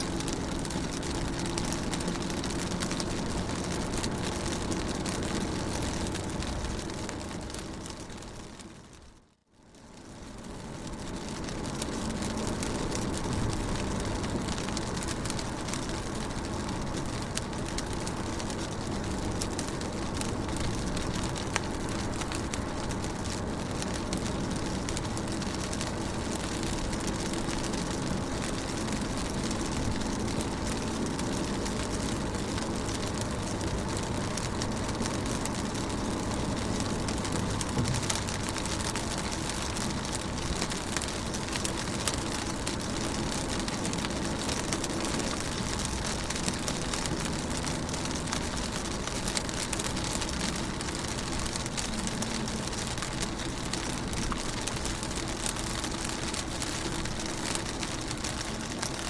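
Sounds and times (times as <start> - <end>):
rain on car windows and roof: 0.0 - 59.0.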